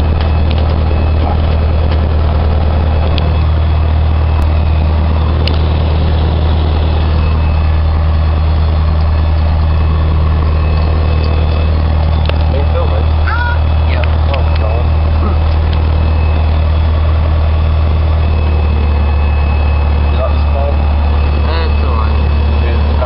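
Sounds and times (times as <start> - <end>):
airplane engine drone in cabin: 0.0 - 23.0.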